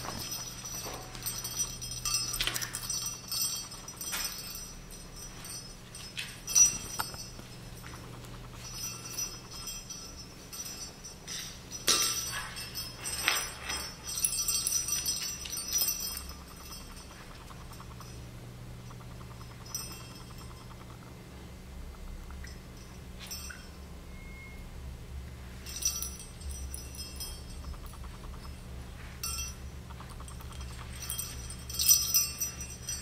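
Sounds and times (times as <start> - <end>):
toys jingling and clinking: 0.0 - 21.2, 22.3 - 23.8, 25.6 - 33.0.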